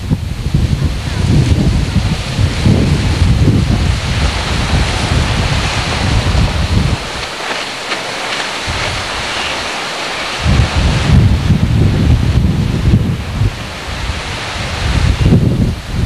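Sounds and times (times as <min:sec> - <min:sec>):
surf hissing: 0:00.0 - 0:16.0
wind buffeting microphone: 0:00.0 - 0:16.0.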